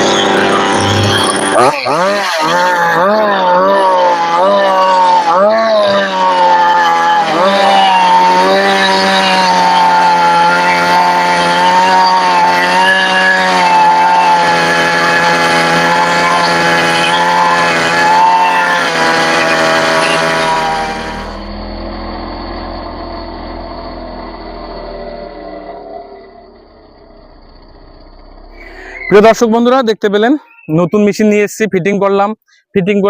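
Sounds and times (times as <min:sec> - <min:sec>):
brush cutter engine running: 0:00.0 - 0:29.5
tiller churning soil: 0:00.0 - 0:29.6.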